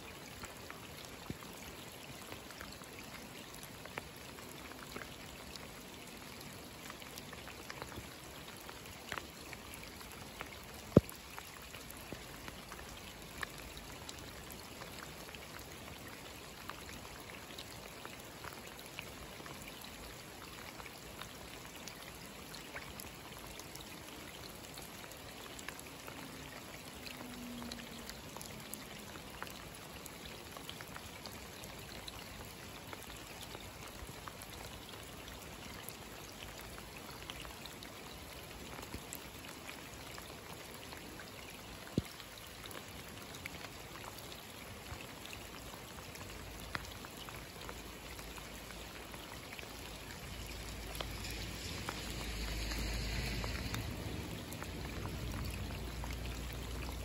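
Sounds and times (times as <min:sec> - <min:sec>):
rain falling on standing water: 0:00.0 - 0:57.0.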